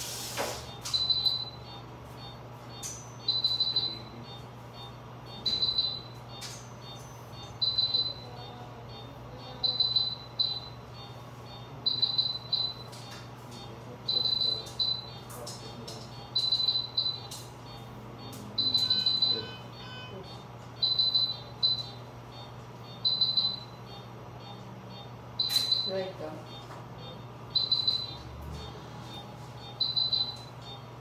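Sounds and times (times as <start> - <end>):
steady low hum: 0.0 - 31.0
high-pitched alarm beeps: 0.1 - 31.0.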